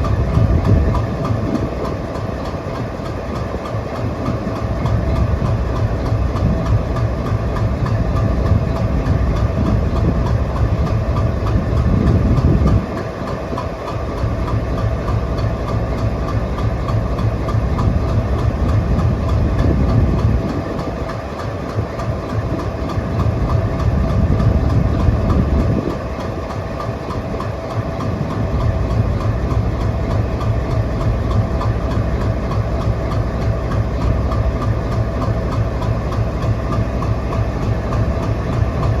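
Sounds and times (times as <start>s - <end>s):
constant engine whine: 0.0s - 39.0s
diesel locomotive engine rumble: 0.0s - 39.0s.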